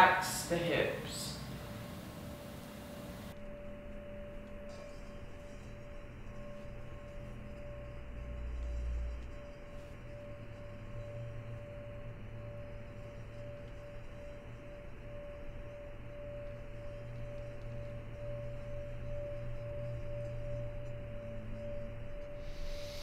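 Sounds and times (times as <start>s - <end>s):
low hum: 0.0s - 23.0s
ringing drone tone: 0.0s - 23.0s
soft hiss: 0.0s - 23.0s.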